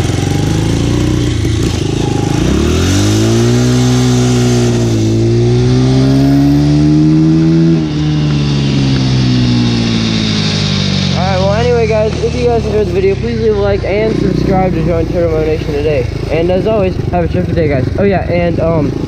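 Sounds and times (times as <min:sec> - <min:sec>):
dirt bike engine accelerating: 0:00.0 - 0:19.0.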